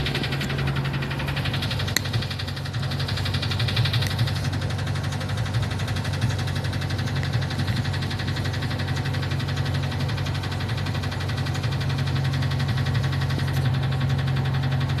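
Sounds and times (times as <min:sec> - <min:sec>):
engine knocking: 0:00.0 - 0:15.0.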